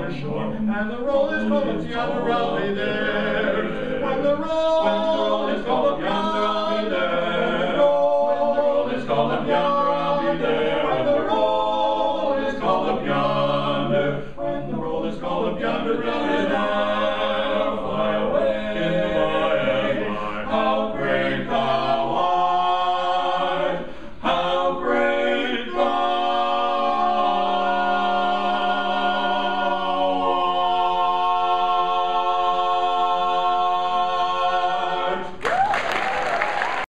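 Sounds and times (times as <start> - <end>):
male quartet singing a cappella: 0.0 - 35.4.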